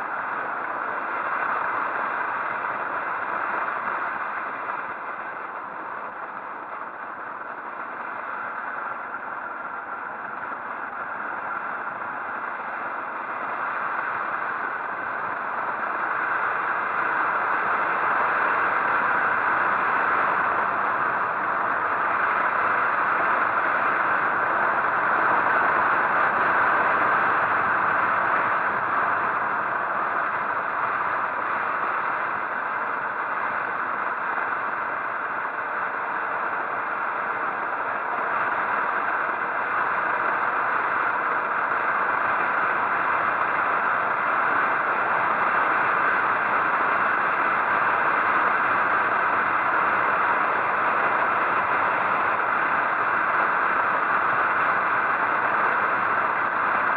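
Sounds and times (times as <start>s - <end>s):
road noise: 0.0s - 56.9s.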